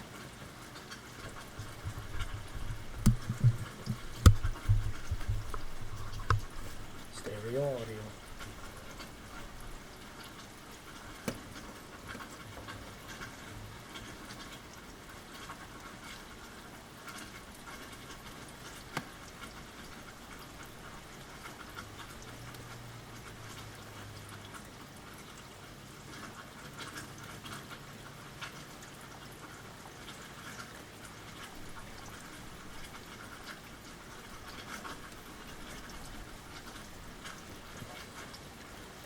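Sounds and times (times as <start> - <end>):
rain falling: 0.0 - 39.0
water drips: 0.0 - 39.0.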